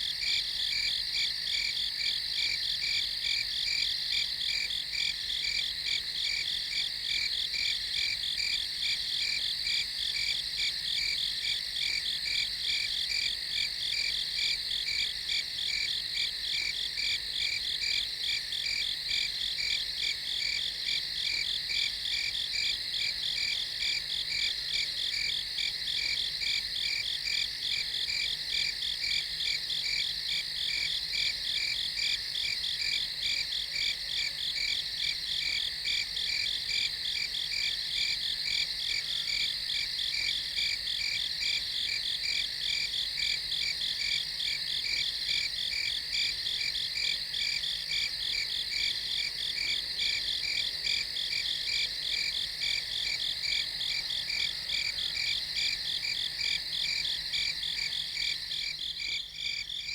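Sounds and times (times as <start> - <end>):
crickets chirping: 9.3 - 59.9.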